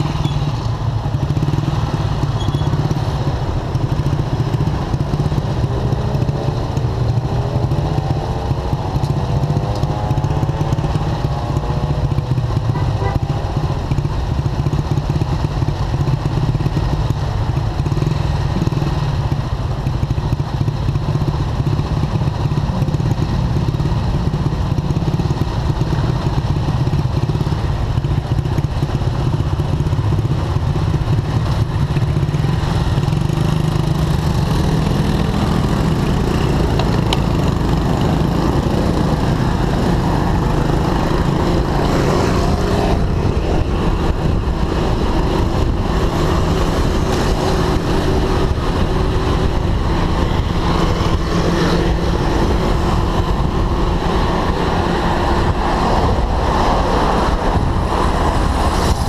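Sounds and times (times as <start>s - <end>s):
motorcycle engines idling: 0.0s - 58.8s.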